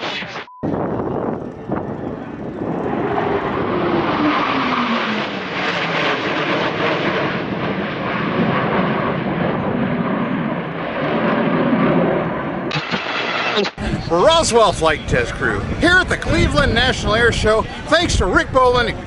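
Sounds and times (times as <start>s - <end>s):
fighter jets flying over: 0.0s - 19.0s.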